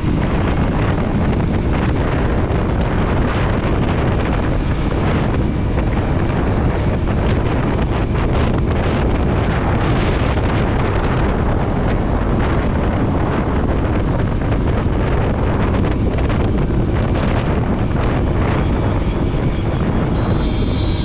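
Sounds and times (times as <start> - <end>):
motorcycle riding noise: 0.0 - 21.0
wind roaring over microphone: 0.0 - 21.0.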